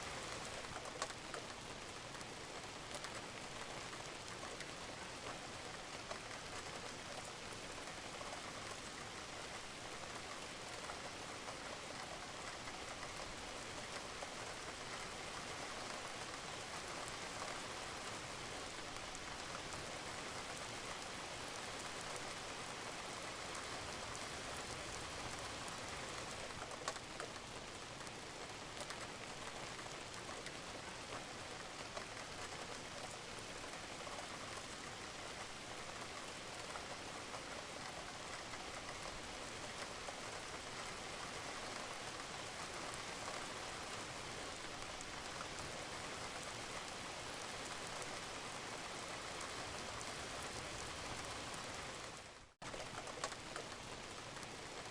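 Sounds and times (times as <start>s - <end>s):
rain falling on a roof: 0.0s - 54.9s.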